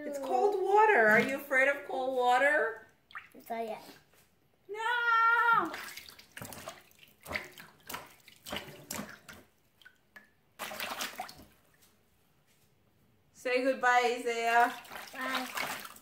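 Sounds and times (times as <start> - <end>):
water splashing and sloshing: 0.0 - 4.2, 5.4 - 12.6, 14.3 - 16.0.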